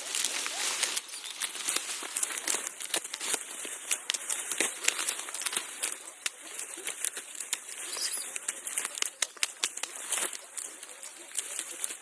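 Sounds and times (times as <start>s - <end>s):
dry corn plants rustling: 0.0s - 12.0s.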